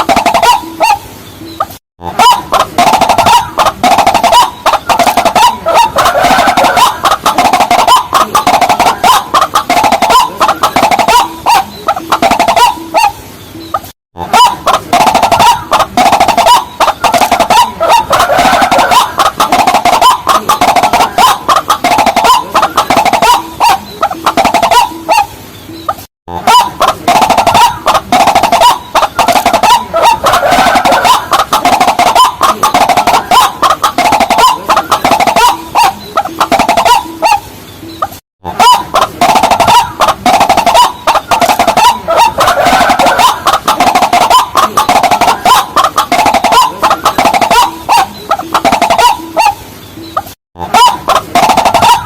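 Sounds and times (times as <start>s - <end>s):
rails croaking calls: 0.0s - 52.0s.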